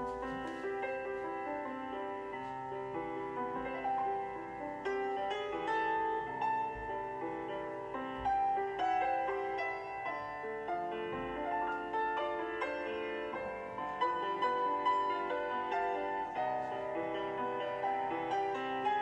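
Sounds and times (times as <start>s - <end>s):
solo piano music from loudspeaker: 0.0s - 19.0s.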